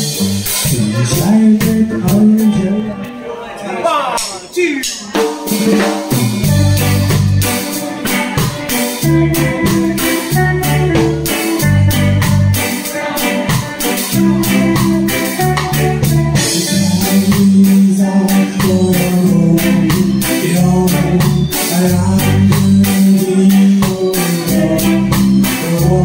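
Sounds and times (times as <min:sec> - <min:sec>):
drum kit with cymbals: 0:00.0 - 0:02.9, 0:04.2 - 0:26.0
electric bass guitar: 0:00.0 - 0:03.1, 0:05.5 - 0:26.0
stage keyboard: 0:00.0 - 0:26.0.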